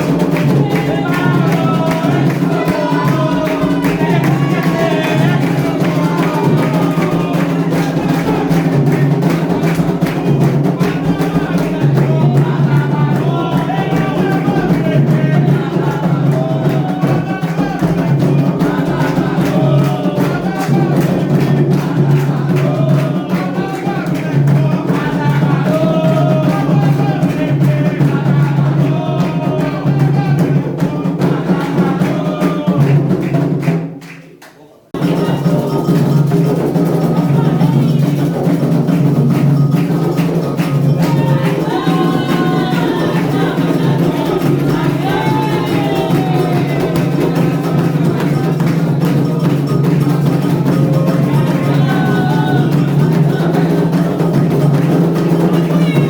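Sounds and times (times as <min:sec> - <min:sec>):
voices singing: 0:00.0 - 0:33.9, 0:34.6 - 0:56.0
hand drums beating: 0:00.0 - 0:34.0, 0:35.0 - 0:56.0.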